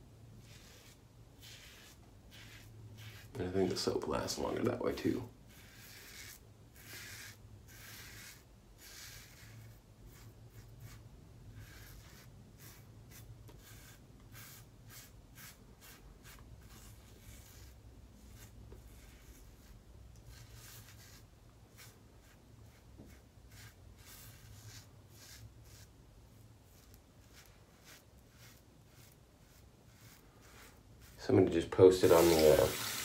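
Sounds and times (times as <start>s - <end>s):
razor scraping stubble: 0.4s - 3.9s, 5.0s - 11.0s, 11.6s - 25.9s, 26.7s - 33.0s.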